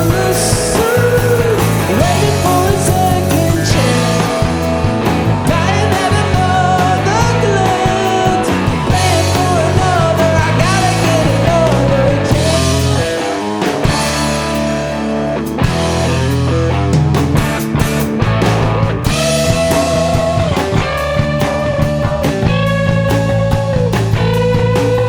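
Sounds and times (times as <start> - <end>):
rock band playing: 0.0 - 25.0
wavering guitar melody: 0.0 - 25.0.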